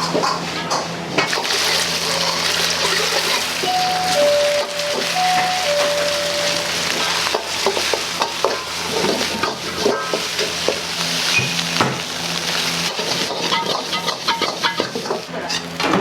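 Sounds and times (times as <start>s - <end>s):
oil sizzling in a wok: 1.2s - 16.0s.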